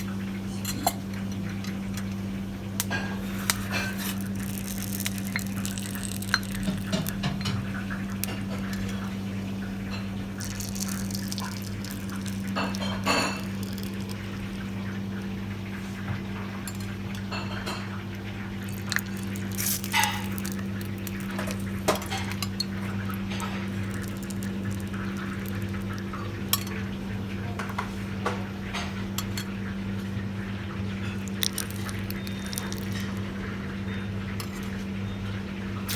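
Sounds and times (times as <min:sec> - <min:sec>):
low electrical hum: 0:00.0 - 0:35.9
dishes and cutlery clinking: 0:00.5 - 0:02.2, 0:02.8 - 0:09.2, 0:09.8 - 0:14.4, 0:16.0 - 0:18.0, 0:18.7 - 0:29.6, 0:31.0 - 0:34.9.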